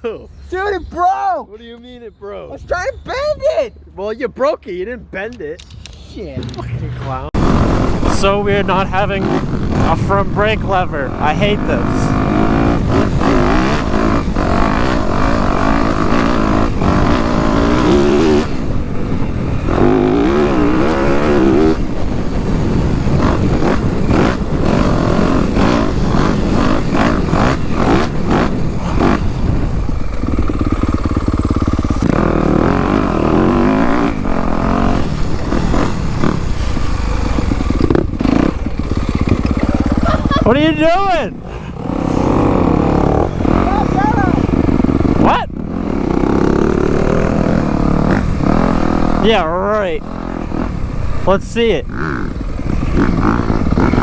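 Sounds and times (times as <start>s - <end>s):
dirt bike engine revving: 7.2s - 54.0s.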